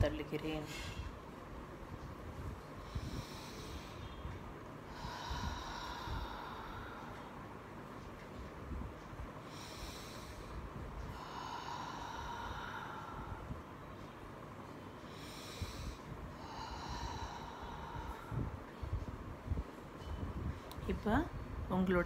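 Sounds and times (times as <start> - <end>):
woman breathing deeply: 0.7 - 20.8.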